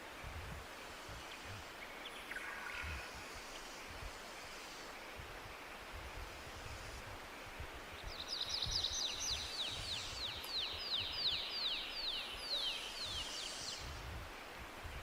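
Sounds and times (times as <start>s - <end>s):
low wind rumble: 0.0s - 15.0s
songbird singing: 0.0s - 15.0s.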